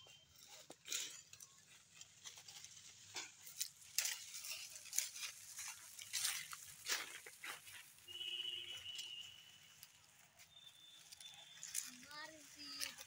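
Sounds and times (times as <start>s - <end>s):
dry leaves and twigs crackling: 0.0s - 13.0s.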